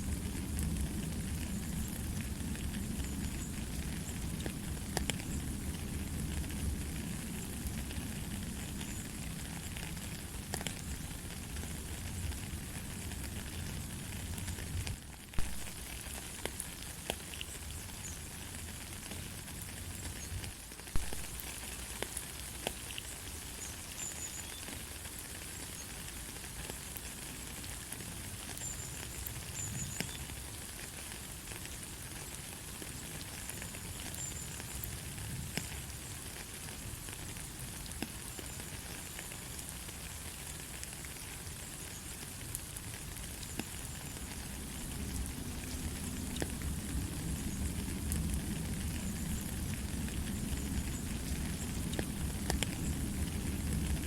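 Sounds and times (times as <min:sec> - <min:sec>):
light rain hiss: 0:00.0 - 0:54.0
raindrop ticks: 0:00.0 - 0:54.0.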